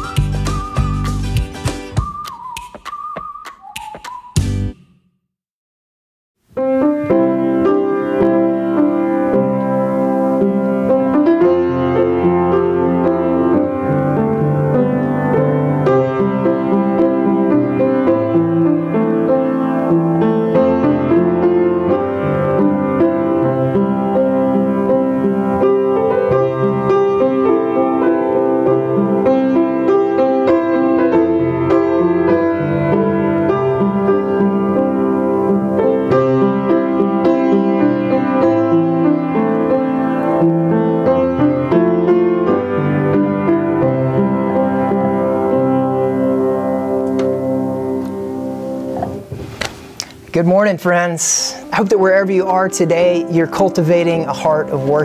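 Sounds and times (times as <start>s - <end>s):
solo piano: 6.4s - 50.3s, 51.3s - 55.0s.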